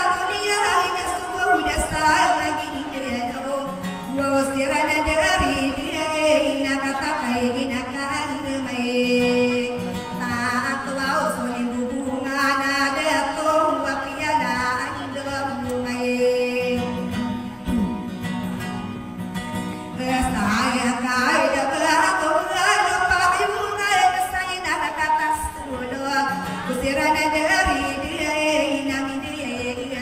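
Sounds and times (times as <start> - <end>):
acoustic guitar: 0.0 - 30.0.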